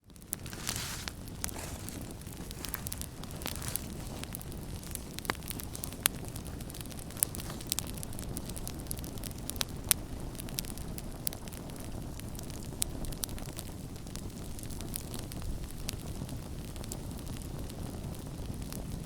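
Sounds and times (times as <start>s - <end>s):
campfire crackling and popping: 0.0s - 19.0s
low rush of burning: 0.0s - 19.0s.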